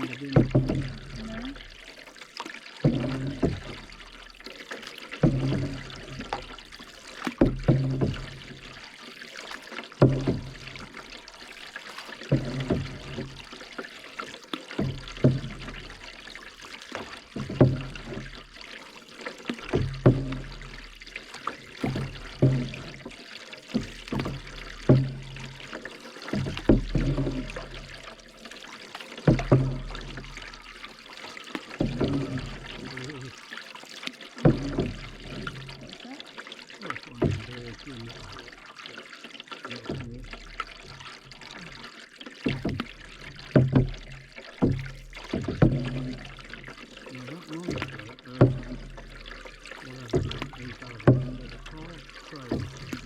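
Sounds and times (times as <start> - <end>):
canoe paddle strokes in water: 0.0 - 53.0
water trickling off paddle: 0.0 - 53.0.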